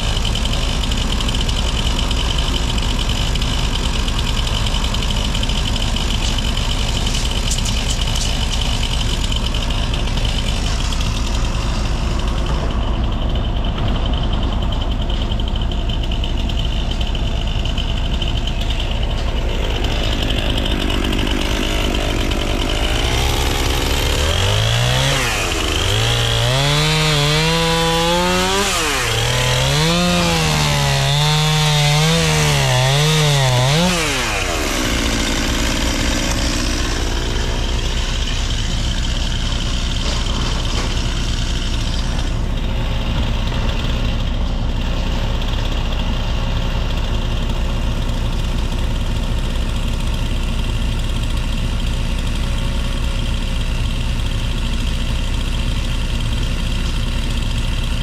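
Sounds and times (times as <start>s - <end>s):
chainsaw revving: 0.0s - 58.0s
diesel engine running: 0.0s - 58.0s.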